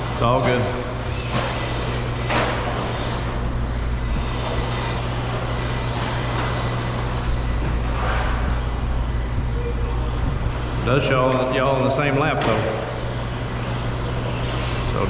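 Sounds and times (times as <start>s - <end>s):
rc truck motors whining: 0.0s - 11.4s, 12.9s - 15.0s
low electrical hum: 0.0s - 15.0s.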